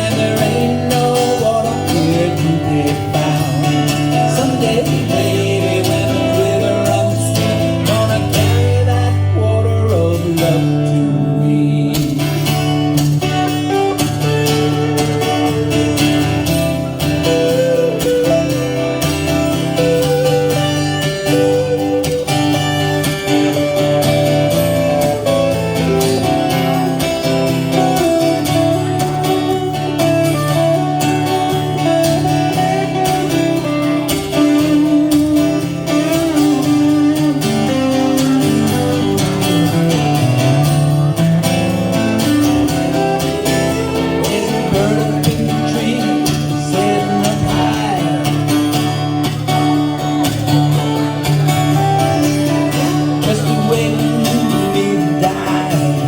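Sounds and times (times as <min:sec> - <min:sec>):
bass line: 0:00.0 - 0:56.0
plucked guitar melody: 0:00.0 - 0:56.0
strummed guitar: 0:00.0 - 0:56.0.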